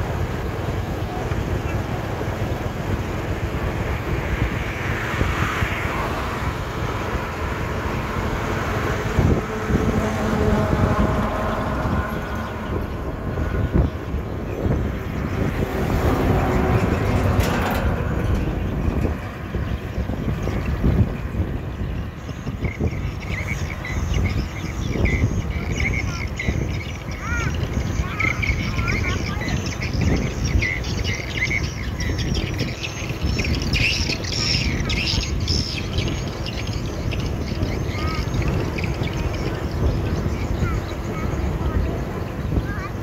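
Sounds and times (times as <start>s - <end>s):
birds chirping: 0.0s - 43.0s
highway road noise rumble: 0.0s - 43.0s
truck engine droning: 0.0s - 43.0s.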